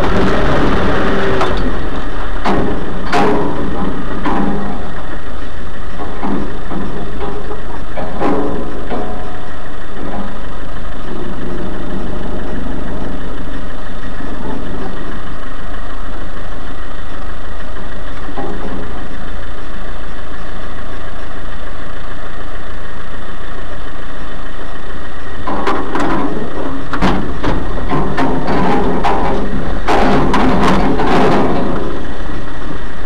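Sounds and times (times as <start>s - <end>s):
vehicle knocks and rattles: 0.0s - 22.5s, 24.4s - 33.0s
car engine idling: 0.0s - 33.0s.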